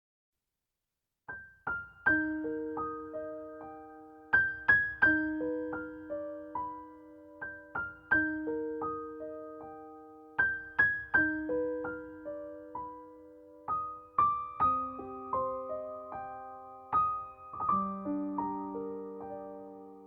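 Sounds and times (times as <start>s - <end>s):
gentle solo piano: 1.3s - 20.0s.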